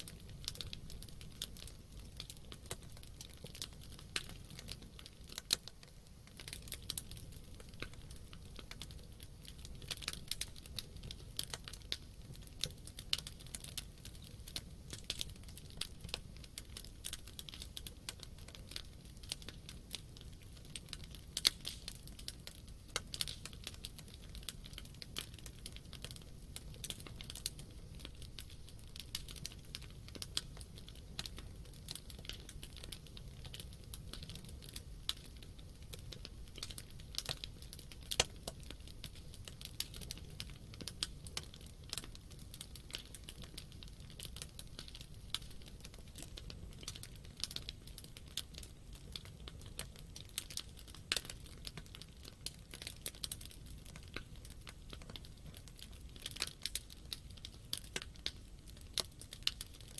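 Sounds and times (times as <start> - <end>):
burning wood crackling: 0.0 - 59.9
low fire rumble: 0.0 - 59.9.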